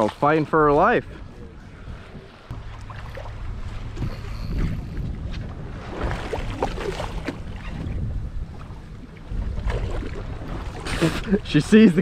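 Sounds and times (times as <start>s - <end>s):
water sloshing around boat: 0.0s - 12.0s
wind on microphone: 0.7s - 12.0s
short water splashes: 1.9s - 12.0s.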